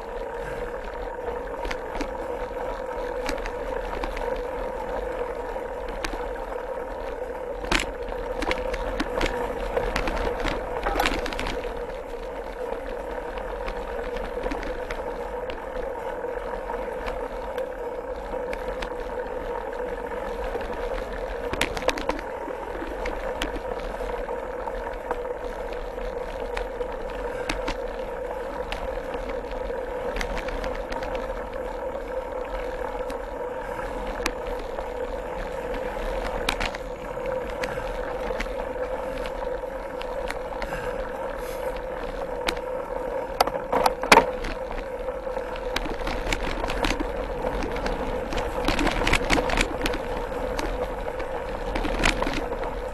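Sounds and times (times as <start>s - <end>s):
bike clicks and rattles: 0.0s - 52.9s
mountain bike tyre and drivetrain noise: 0.0s - 52.9s.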